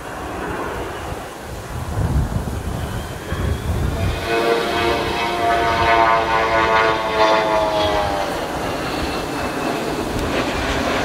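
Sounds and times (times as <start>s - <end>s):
jet aircraft engines passing by: 0.0s - 11.0s
wind rumble: 0.0s - 11.0s.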